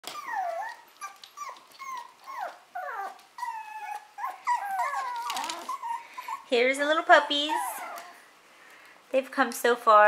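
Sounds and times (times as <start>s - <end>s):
puppies whining and yelping: 0.0s - 8.4s.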